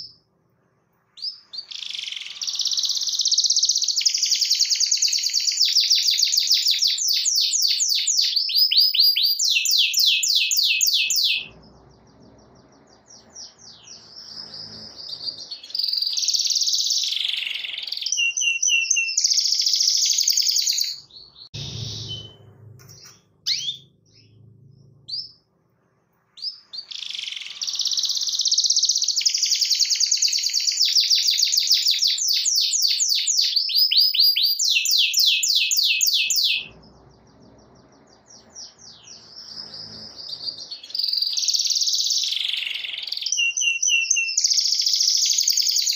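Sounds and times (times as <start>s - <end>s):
canary singing trills: 1.2s - 25.5s, 26.4s - 45.9s.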